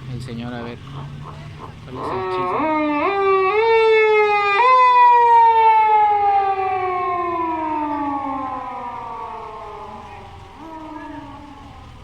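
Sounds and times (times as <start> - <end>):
police siren wailing: 1.0 - 12.0.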